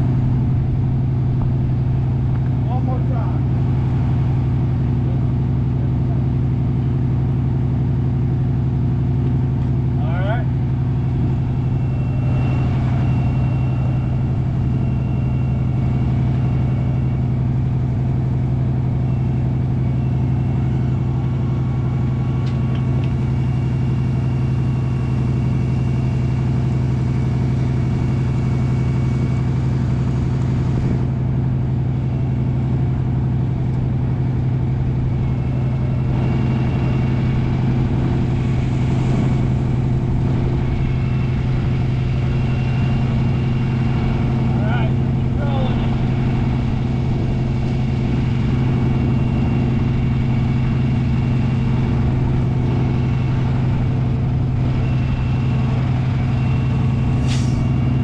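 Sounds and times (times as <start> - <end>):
tow truck engine idling: 0.0 - 58.0.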